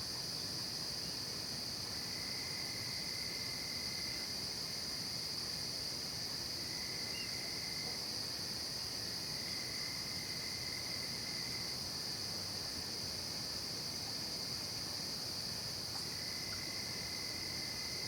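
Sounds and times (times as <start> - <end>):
crickets trilling: 0.0 - 18.0
fainter lower insect trill: 0.0 - 18.0.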